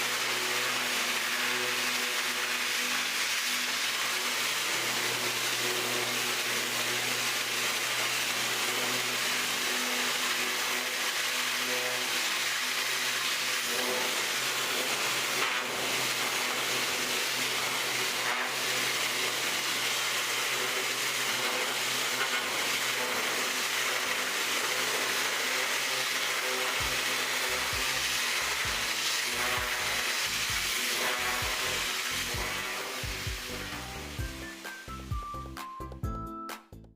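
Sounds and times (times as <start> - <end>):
pressure washer water jet hissing: 0.0 - 35.2.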